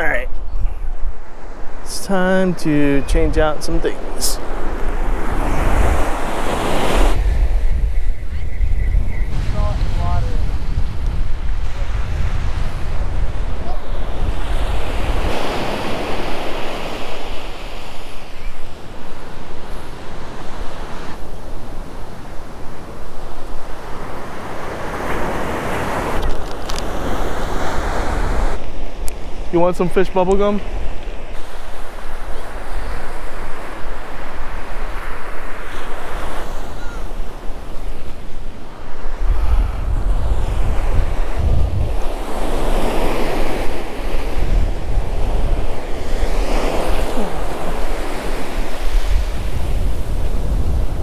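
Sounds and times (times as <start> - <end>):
wind buffeting microphone: 0.0 - 29.6, 30.4 - 51.0
ocean surf breaking on beach: 1.0 - 8.1, 9.3 - 51.0.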